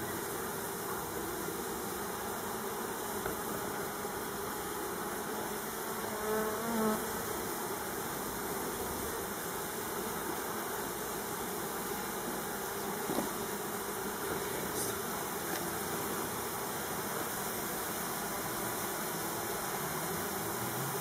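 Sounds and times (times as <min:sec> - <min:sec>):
background hiss: 0:00.0 - 0:21.0
honeybees buzzing: 0:00.0 - 0:21.0.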